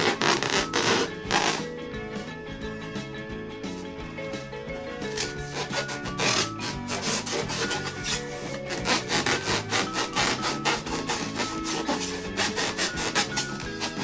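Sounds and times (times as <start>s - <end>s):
background music: 0.0s - 14.0s
rubber balloons squeaking: 0.0s - 14.0s.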